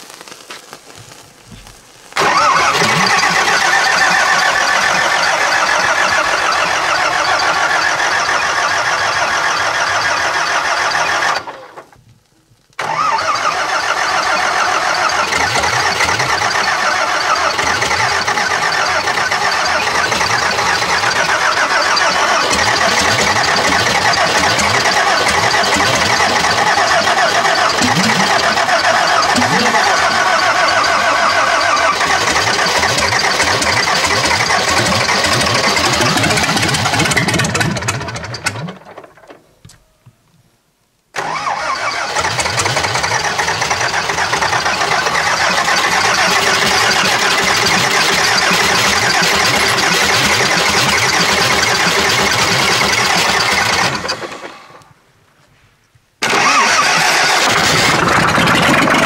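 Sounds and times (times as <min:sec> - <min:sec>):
diesel tractor engine running rough: 0:02.2 - 0:11.9, 0:12.8 - 0:39.4, 0:41.2 - 0:54.8, 0:56.2 - 0:59.0.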